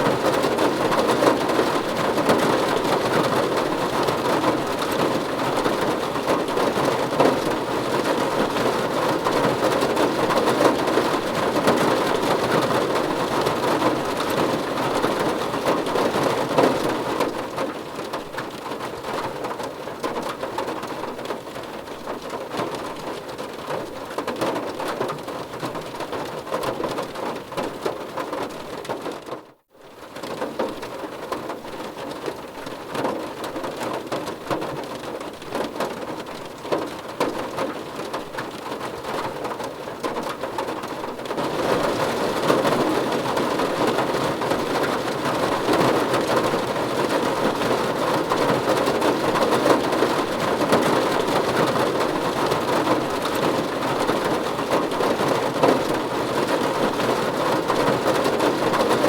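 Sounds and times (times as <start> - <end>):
rain on a car roof: 0.0 - 59.0.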